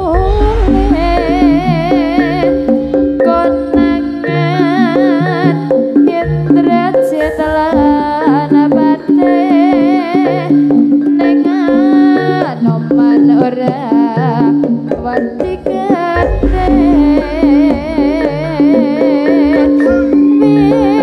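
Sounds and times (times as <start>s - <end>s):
gamelan music with hand drums: 0.0s - 21.0s.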